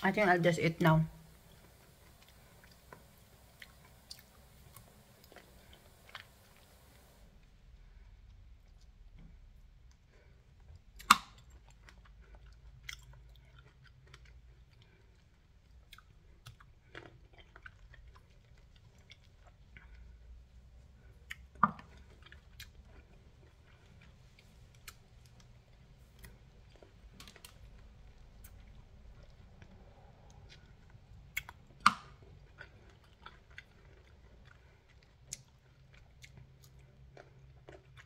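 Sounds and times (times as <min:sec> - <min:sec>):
person chewing wetly: 0:01.2 - 0:38.0.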